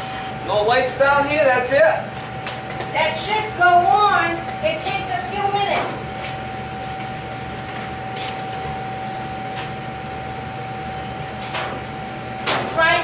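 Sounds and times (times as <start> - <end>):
burner fan and flame rushing: 0.0 - 13.0
oil burner high-pitched whine: 0.0 - 13.0.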